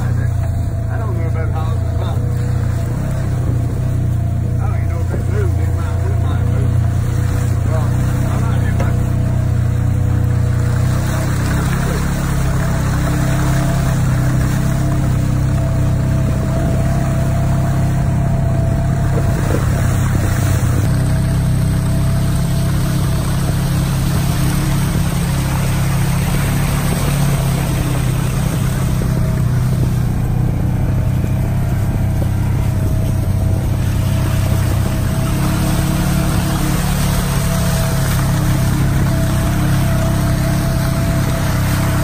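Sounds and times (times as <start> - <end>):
vehicle engine droning: 0.0 - 42.0.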